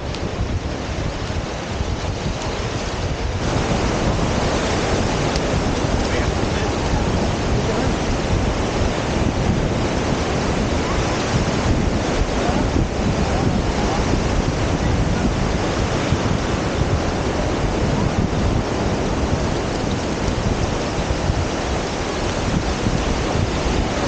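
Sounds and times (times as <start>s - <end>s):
small surf waves washing: 0.0s - 24.0s
wind buffeting microphone: 0.0s - 24.0s.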